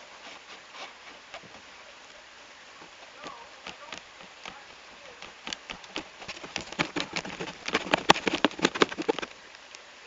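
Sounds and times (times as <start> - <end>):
heavy raindrops tapping hard surface: 1.2 - 9.8.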